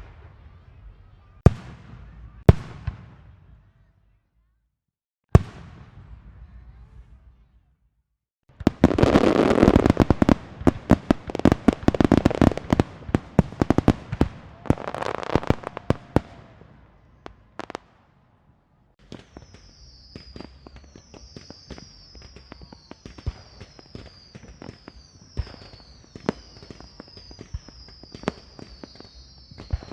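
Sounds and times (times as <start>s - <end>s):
firecracker barrage: 0.0s - 3.9s, 5.3s - 7.5s, 8.5s - 29.9s
whistling fireworks: 0.0s - 4.2s, 8.5s - 29.9s.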